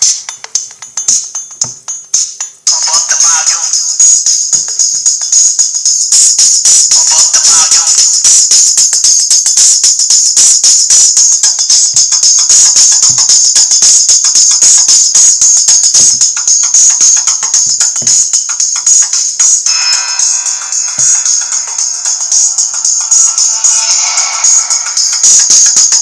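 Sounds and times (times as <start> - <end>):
thin music from phone speaker: 0.0 - 26.0.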